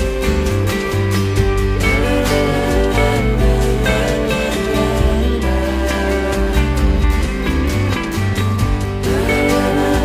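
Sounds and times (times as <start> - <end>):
rock music with acoustic guitar: 0.0 - 10.0.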